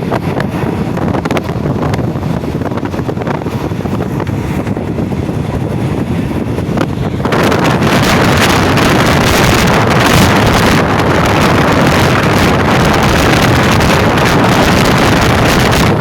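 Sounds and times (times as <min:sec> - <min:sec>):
passenger train wheels rolling: 0:00.0 - 0:16.0
wind buffeting microphone: 0:00.0 - 0:16.0.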